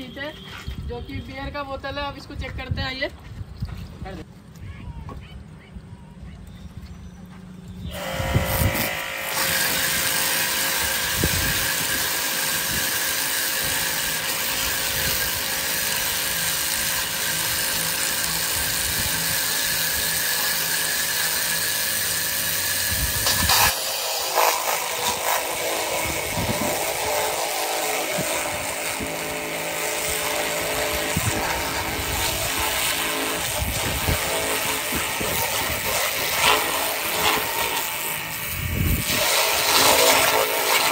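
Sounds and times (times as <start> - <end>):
pump whining: 7.2 - 40.9.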